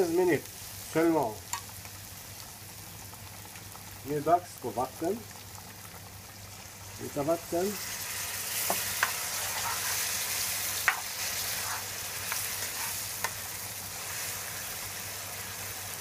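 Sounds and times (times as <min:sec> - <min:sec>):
stew sizzling in a skillet: 0:00.0 - 0:16.0.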